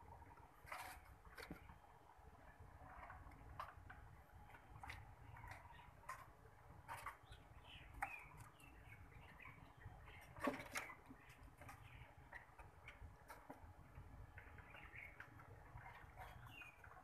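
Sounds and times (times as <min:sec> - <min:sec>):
faint birdsong chirping: 0:00.0 - 0:17.0.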